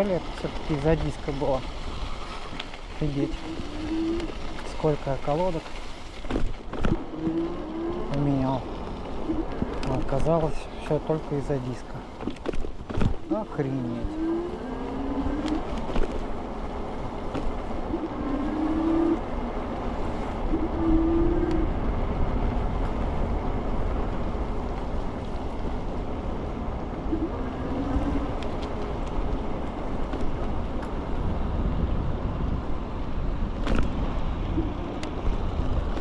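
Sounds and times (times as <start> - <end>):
road rumble: 0.0 - 36.0
wind rush on microphone: 0.0 - 36.0.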